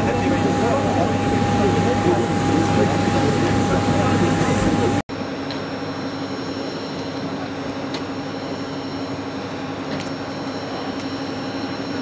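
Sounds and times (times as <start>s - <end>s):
jet engine hum and whine: 0.0s - 12.0s.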